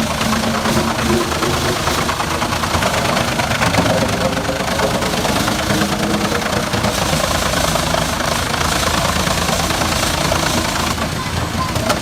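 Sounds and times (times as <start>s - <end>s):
harsh mechanical noise: 0.0s - 12.0s
large engine running: 0.0s - 12.0s.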